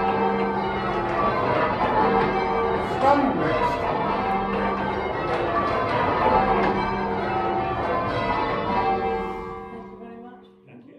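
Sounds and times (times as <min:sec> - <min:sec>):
tower bells change ringing: 0:00.0 - 0:10.9.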